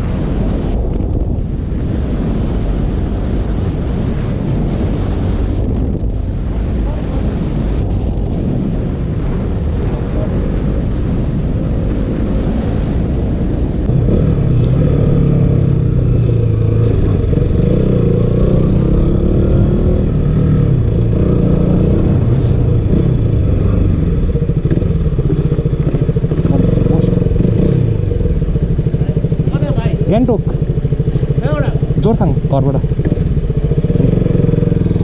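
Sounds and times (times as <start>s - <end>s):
motorcycle engine while riding: 0.0s - 35.0s
wind on microphone: 0.0s - 35.0s.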